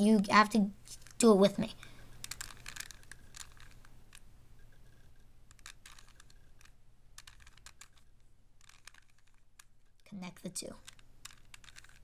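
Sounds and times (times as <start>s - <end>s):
plastic puzzle cube clicking: 0.8s - 1.2s, 1.8s - 10.0s, 10.6s - 12.0s.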